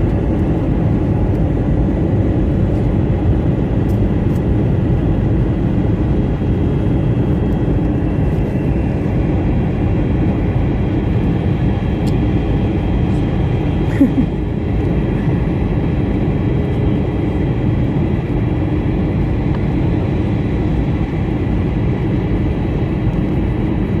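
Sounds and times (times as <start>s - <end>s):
airliner cabin engine noise: 0.0s - 24.0s.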